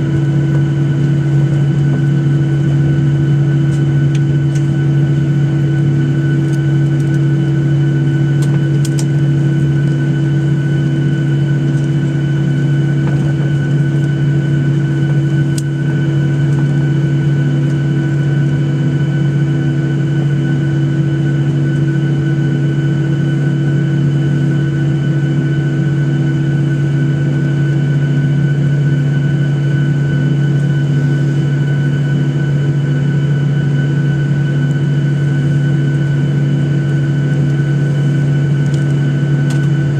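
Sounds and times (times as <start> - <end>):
aircraft cabin engine hum: 0.0 - 39.9
high engine whine: 0.0 - 39.9.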